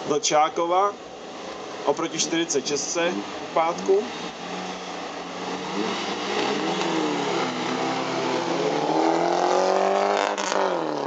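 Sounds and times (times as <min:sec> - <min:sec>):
cars accelerating hard: 0:01.5 - 0:11.0.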